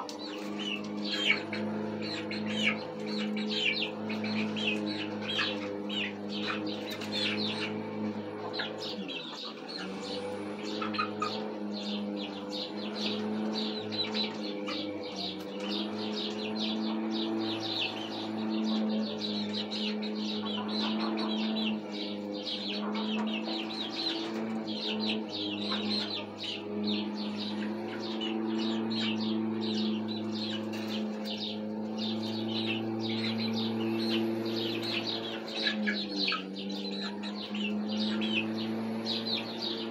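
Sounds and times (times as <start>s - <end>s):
young chickens peeping: 0.0s - 39.9s.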